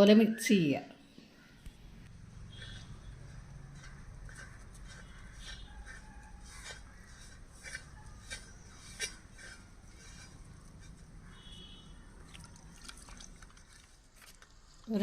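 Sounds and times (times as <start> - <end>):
spoon mixing in a bowl: 2.1 - 14.9.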